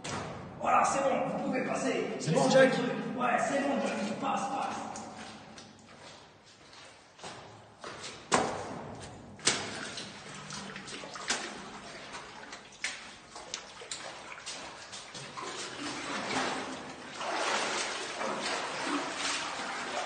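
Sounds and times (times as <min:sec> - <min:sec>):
footsteps splashing in shallow water: 0:02.7 - 0:20.0.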